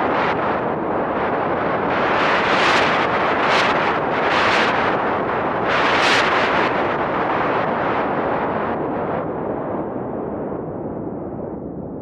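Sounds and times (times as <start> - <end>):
synthesizer wind noise: 0.0 - 12.0.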